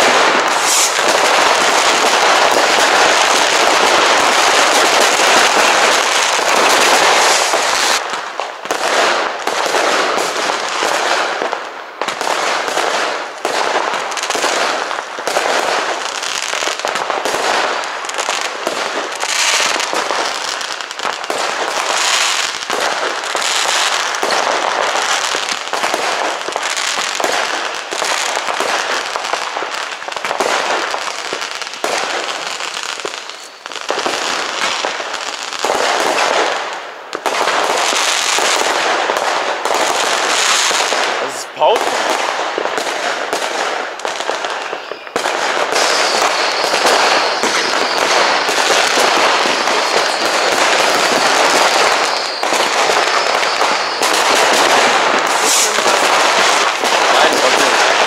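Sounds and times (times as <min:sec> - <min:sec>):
fireworks and firecrackers banging: 0:00.0 - 0:58.0.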